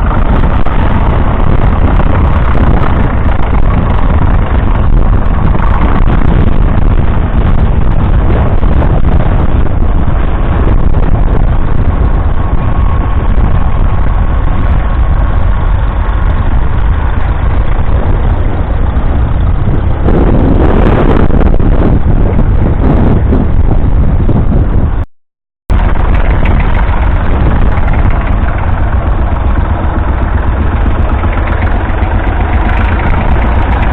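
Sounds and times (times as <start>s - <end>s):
loud rushing noise: 0.0s - 25.0s, 25.7s - 33.9s
tractor engine running: 0.0s - 25.1s, 25.7s - 33.9s.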